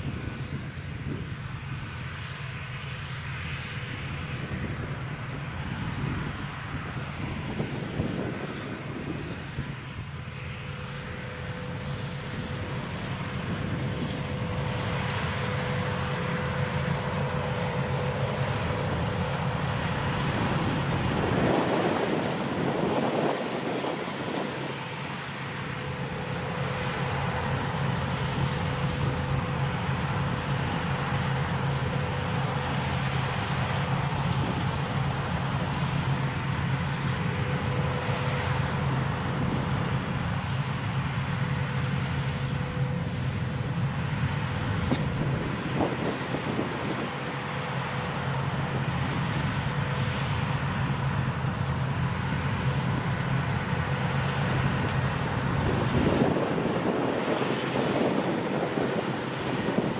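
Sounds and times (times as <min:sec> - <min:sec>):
combine harvester humming: 0:00.0 - 0:59.9
insects chirring: 0:00.0 - 0:59.9.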